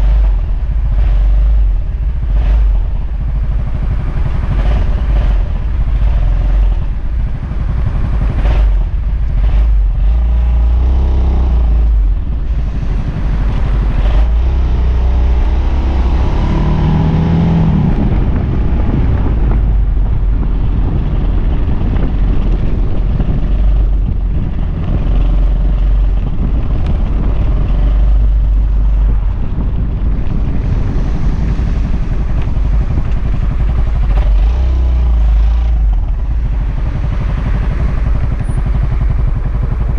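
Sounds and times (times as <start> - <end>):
scooter engine running: 0.0 - 39.9
tyres on cobblestones: 0.0 - 39.9
wind on microphone: 0.0 - 39.9.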